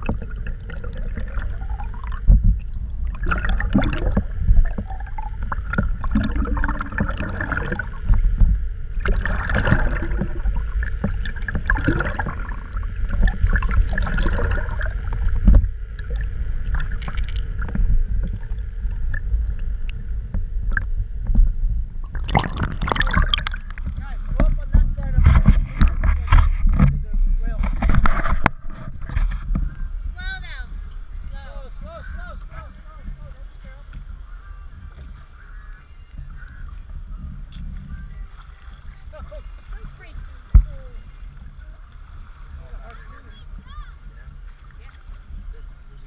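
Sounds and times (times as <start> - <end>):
underwater sloshing and gurgling: 0.0 - 46.0.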